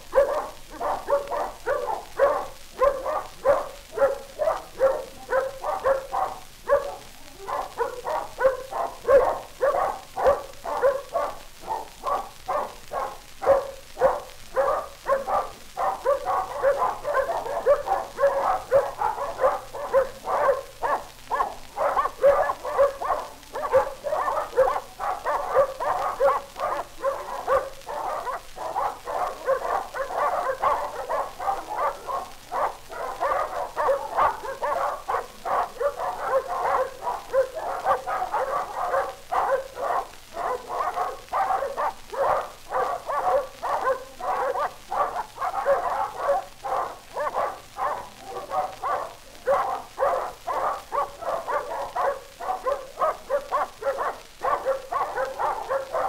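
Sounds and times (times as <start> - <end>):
dog barking: 0.0 - 56.0.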